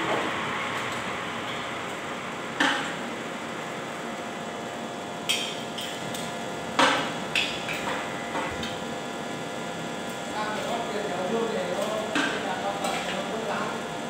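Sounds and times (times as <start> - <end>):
electric fan hum: 0.0 - 14.0.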